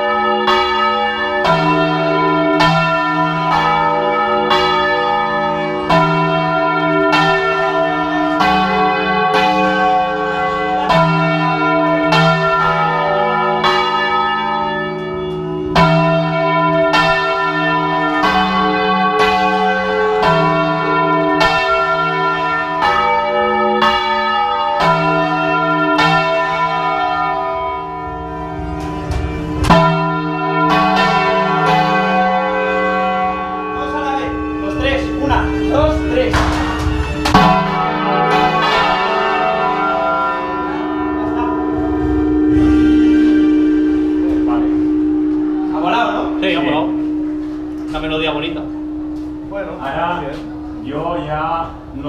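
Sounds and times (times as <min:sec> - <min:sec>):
church bells pealing: 0:00.0 - 0:52.0.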